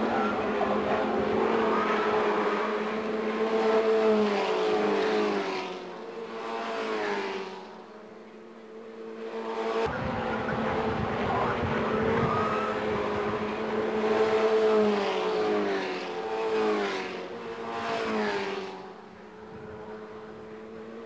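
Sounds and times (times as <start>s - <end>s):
racing cars passing: 0.0s - 21.0s.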